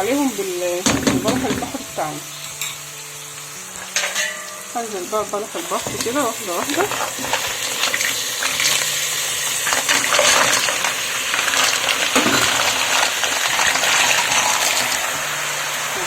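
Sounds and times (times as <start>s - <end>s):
onion sizzling: 0.0s - 16.0s.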